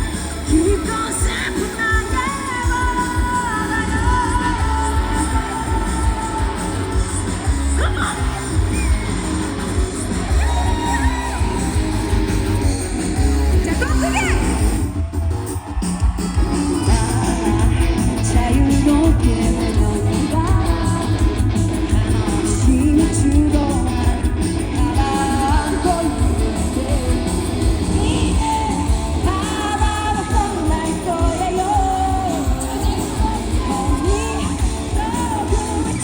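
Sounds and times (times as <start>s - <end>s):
person singing: 0.0s - 11.8s, 16.7s - 36.0s
live rock band playing: 0.0s - 36.0s.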